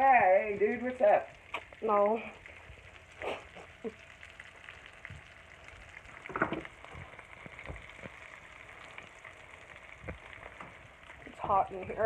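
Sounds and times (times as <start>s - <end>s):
butter sizzling in a frying pan: 0.0s - 12.0s.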